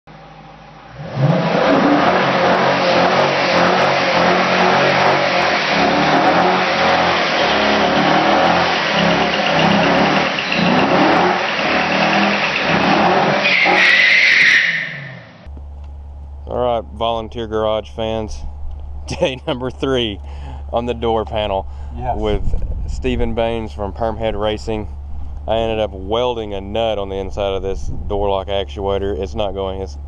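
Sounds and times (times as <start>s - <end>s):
high whine: 0.1s - 30.0s
vehicle engine revving: 0.1s - 30.0s.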